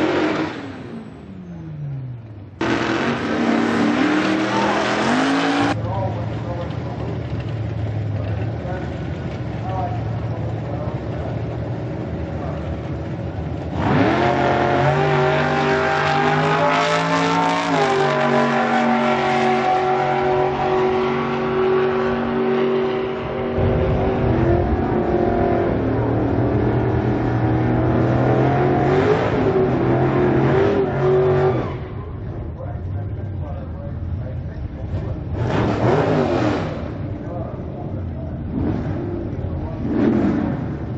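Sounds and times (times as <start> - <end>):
second car engine revving: 0.0 - 6.0, 10.2 - 31.7, 34.8 - 40.9
race car engine at full throttle: 0.0 - 40.9.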